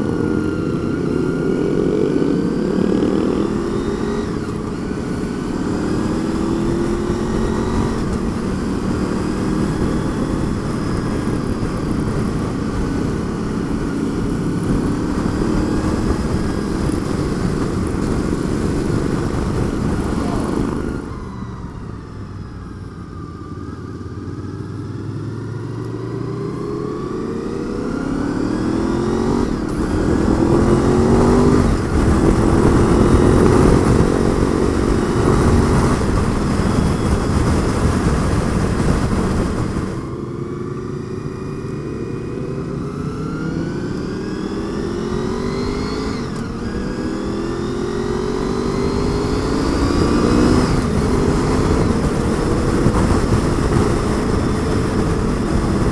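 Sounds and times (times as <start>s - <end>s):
heavy wind noise: 0.0s - 23.2s, 26.4s - 55.9s
motorcycle engine accelerating: 0.0s - 55.9s.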